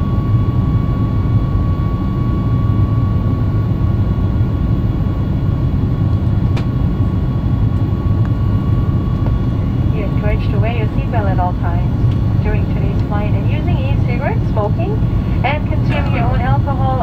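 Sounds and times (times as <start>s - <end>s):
jet engines low rumble: 0.0s - 17.0s
steady high whine: 0.0s - 17.0s.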